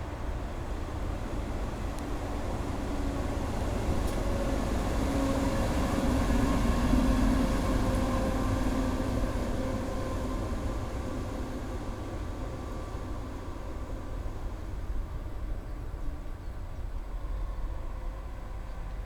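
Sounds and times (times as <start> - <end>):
diesel locomotive passing: 0.0 - 19.0.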